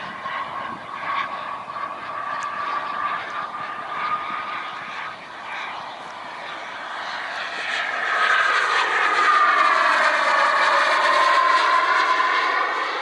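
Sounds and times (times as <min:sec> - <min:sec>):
model jet turbine whining: 0:00.0 - 0:13.0.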